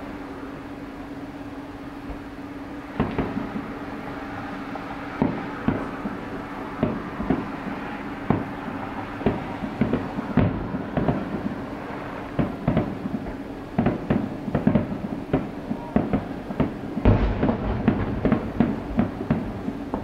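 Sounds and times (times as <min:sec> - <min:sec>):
fireworks bursting: 0:00.0 - 0:20.0
steady hum: 0:00.0 - 0:20.0.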